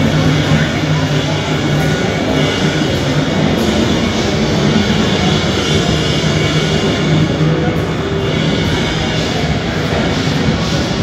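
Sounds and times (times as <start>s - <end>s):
loud music over sound system: 0.0s - 11.0s.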